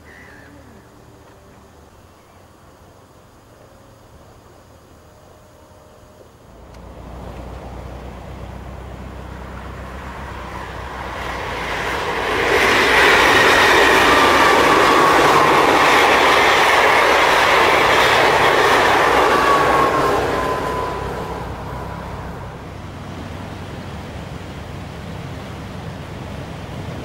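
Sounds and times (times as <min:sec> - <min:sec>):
electric train passing: 0:00.0 - 0:27.0
high train whine: 0:00.0 - 0:27.0.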